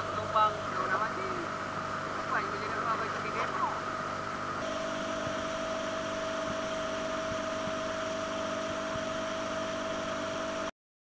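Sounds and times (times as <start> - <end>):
outboard motor running: 0.0 - 10.7.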